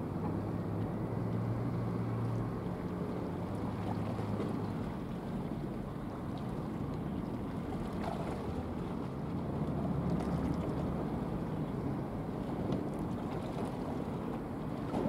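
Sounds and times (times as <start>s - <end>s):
distant ship engines: 0.0s - 15.0s.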